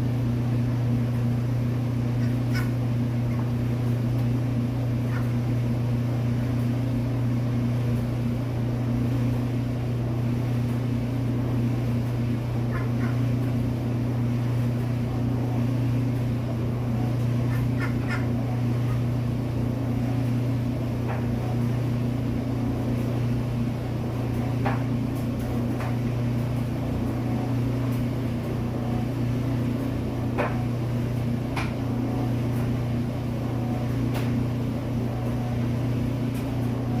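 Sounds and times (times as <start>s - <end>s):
machine humming: 0.0s - 37.0s.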